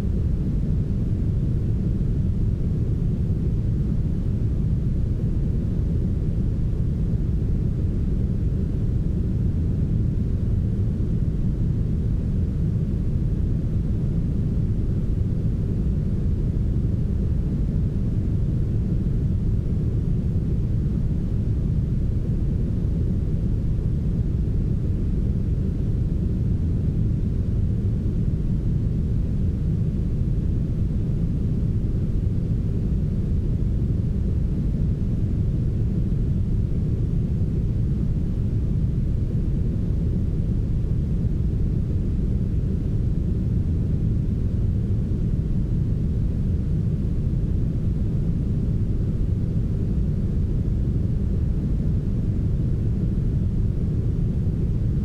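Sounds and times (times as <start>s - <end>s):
deep rumbling brown noise: 0.0s - 55.0s.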